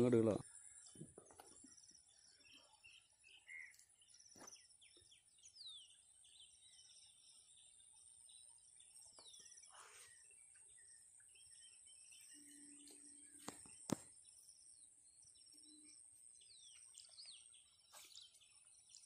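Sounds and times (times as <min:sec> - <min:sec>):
bird chirps and trills: 0:00.0 - 0:19.0.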